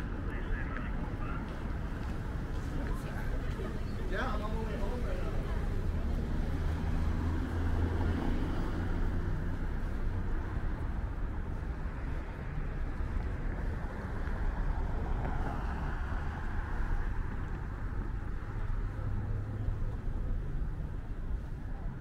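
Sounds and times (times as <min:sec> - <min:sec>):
low rumble of cars: 0:00.0 - 0:22.0.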